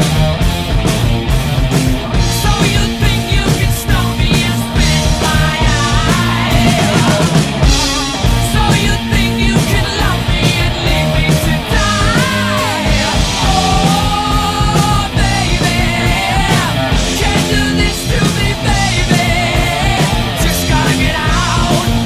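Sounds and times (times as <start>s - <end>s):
rock band playing: 0.0s - 22.0s
person singing: 2.0s - 22.0s.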